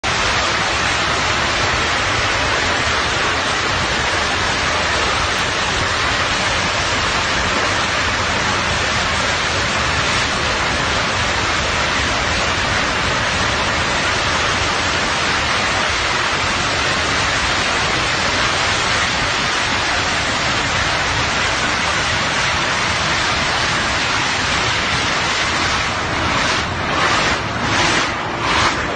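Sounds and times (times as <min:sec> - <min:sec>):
loud rushing roar: 0:00.0 - 0:28.9.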